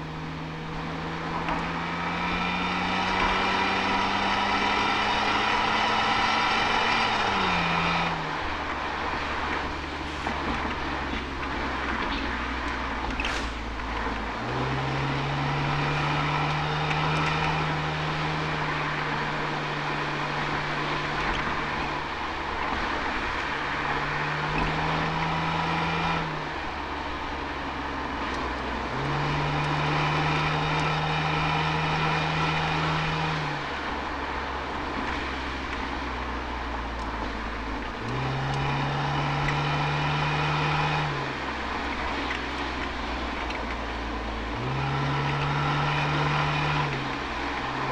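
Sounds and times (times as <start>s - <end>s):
car engine accelerating: 0.0s - 47.9s
tyre and road noise: 0.0s - 47.9s.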